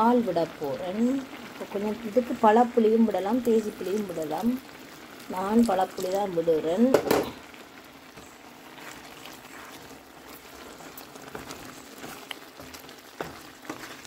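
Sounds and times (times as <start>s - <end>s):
curry bubbling in a pan: 0.0s - 14.0s.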